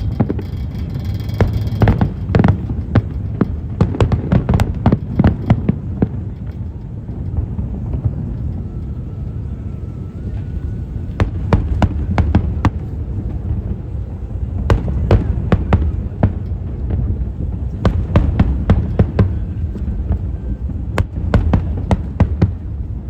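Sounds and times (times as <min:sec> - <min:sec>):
fireworks crackling pops: 0:00.0 - 0:09.6, 0:10.2 - 0:23.0
fireworks low rumble: 0:00.0 - 0:23.0.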